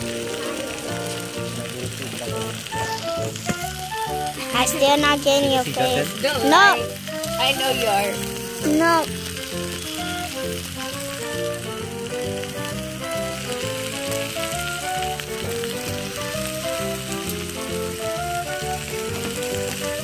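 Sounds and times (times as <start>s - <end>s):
steak sizzling in a skillet: 0.0s - 20.0s.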